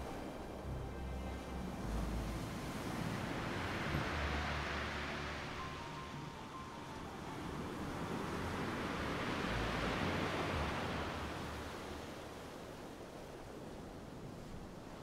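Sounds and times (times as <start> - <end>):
sea surf rushing: 0.0 - 15.0.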